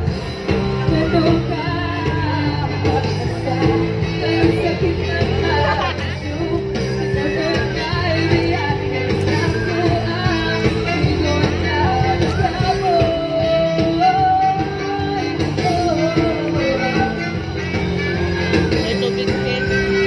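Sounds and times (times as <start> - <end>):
guitar: 0.0 - 20.0
person singing: 0.0 - 20.0.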